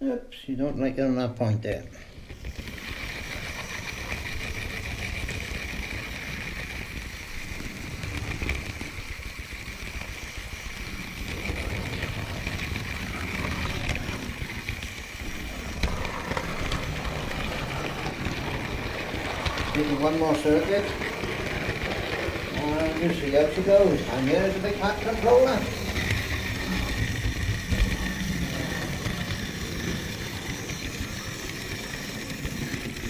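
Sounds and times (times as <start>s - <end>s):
metal wheels rattling on rails: 2.2s - 33.0s
high whine: 2.5s - 33.0s.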